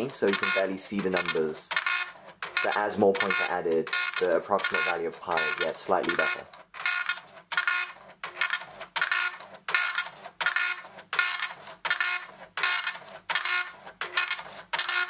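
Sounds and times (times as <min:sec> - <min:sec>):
dot-matrix printer printing: 0:00.0 - 0:15.0.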